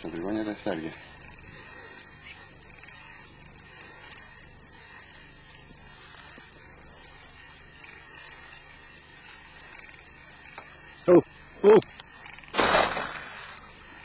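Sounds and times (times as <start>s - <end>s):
insects chirping: 0.0s - 14.0s
open countryside ambience: 0.0s - 14.0s.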